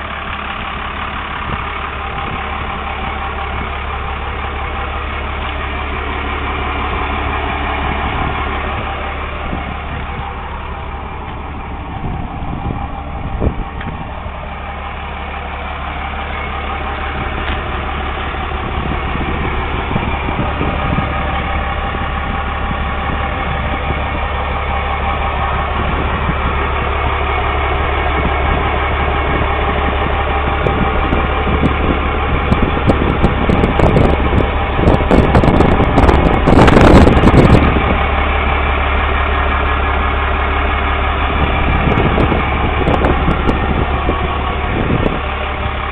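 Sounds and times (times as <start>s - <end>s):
diesel truck engine idling: 0.0s - 45.9s.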